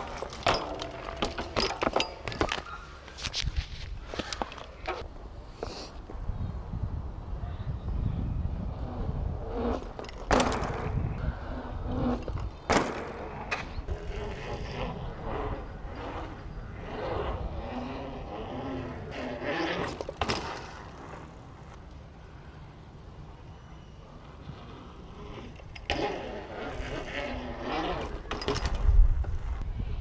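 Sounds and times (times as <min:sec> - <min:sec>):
bike tyres rolling on concrete: 0:00.0 - 0:30.0.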